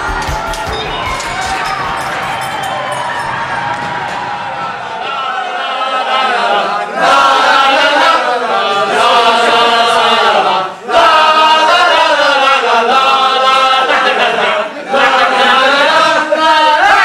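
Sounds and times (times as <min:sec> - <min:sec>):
group of voices chanting: 0:00.0 - 0:17.0.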